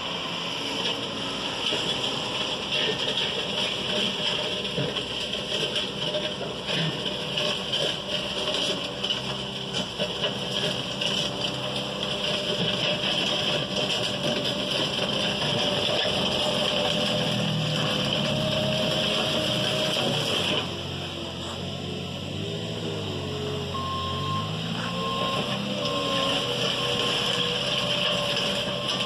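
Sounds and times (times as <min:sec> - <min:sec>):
diesel engine running under load: 0:00.0 - 0:29.0.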